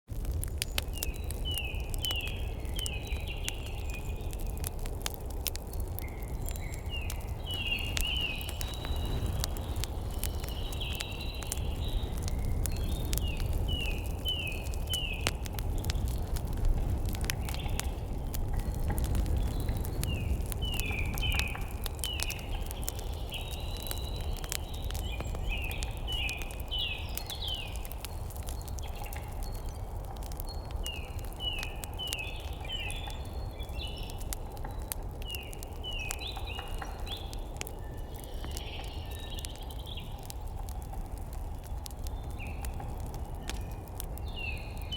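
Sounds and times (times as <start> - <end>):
songbirds chirping: 0.1 - 44.9
wood fire crackling and popping: 0.1 - 44.9.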